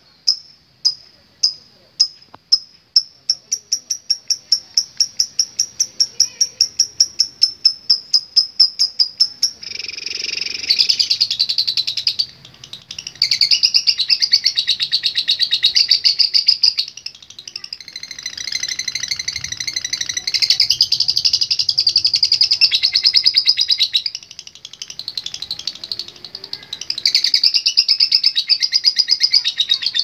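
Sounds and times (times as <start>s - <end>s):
lovebird chirping and trilling: 0.0s - 30.0s.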